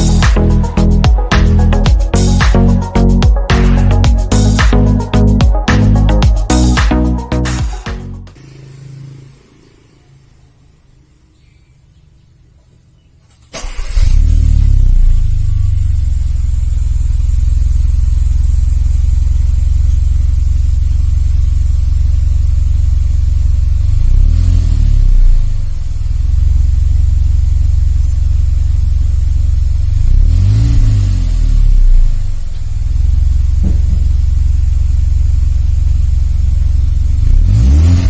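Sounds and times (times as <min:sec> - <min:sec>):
car engine idling and revving: 0:00.0 - 0:11.6, 0:12.2 - 0:38.0.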